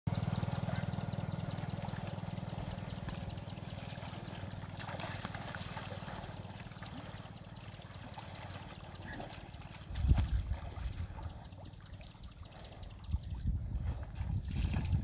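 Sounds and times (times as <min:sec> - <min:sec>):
animal splashing in water: 0:00.1 - 0:15.0
steady low hum: 0:00.1 - 0:15.0.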